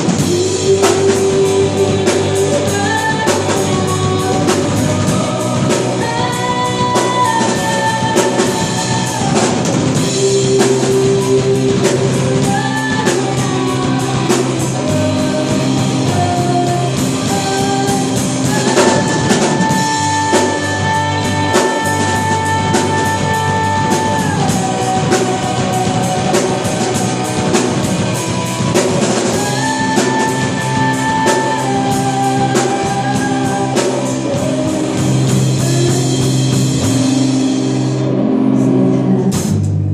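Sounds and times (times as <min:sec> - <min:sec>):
live rock band: 0:00.0 - 0:39.9.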